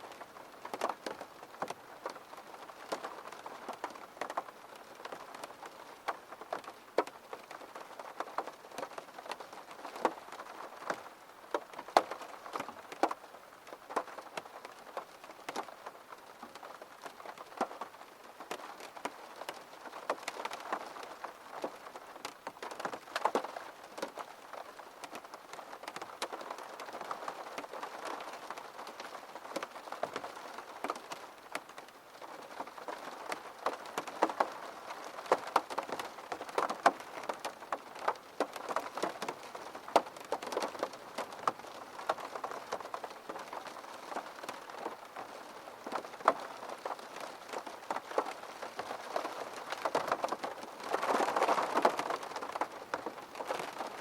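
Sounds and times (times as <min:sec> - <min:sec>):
steady rain hiss: 0:00.0 - 0:54.0
raindrops tapping: 0:00.1 - 0:54.0.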